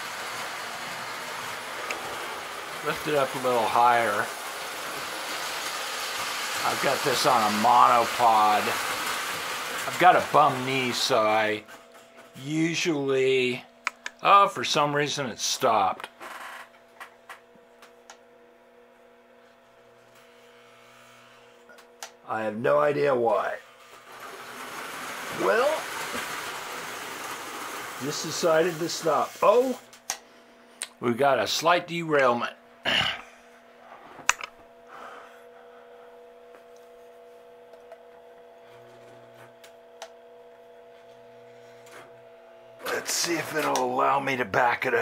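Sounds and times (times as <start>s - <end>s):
faint electrical hum: 0.0s - 45.0s.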